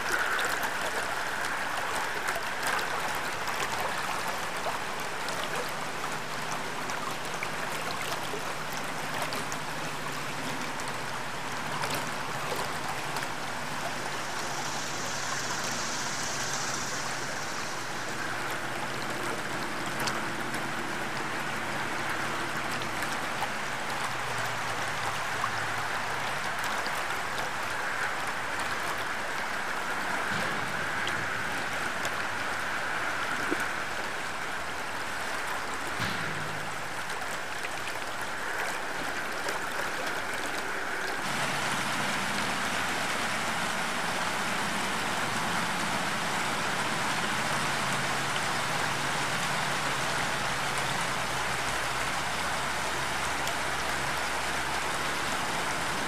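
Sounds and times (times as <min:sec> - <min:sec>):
high hiss: 0:00.0 - 0:37.5, 0:40.7 - 0:56.0
stream water running: 0:00.0 - 0:56.0.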